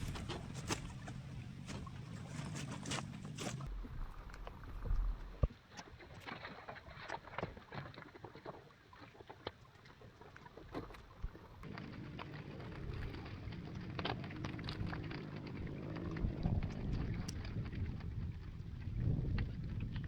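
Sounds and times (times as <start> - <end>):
water splashing around raft: 0.0 - 20.0.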